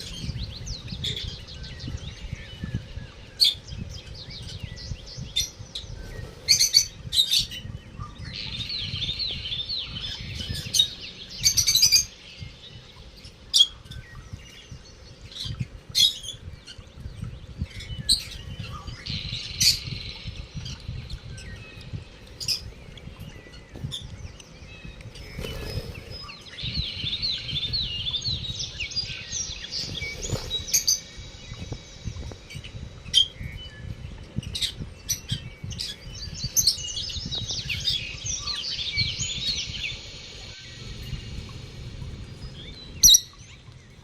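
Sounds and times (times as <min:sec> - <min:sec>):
lovebirds twittering: 0:00.0 - 0:44.0.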